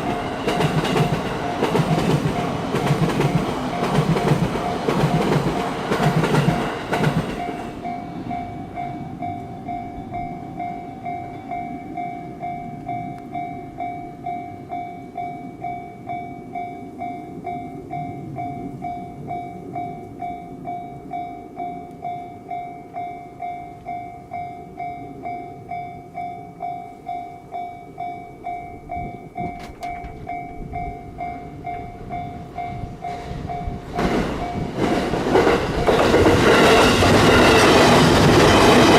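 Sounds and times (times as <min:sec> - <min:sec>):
railroad crossing bell ringing: 0:00.0 - 0:38.9
train passing: 0:00.0 - 0:38.9.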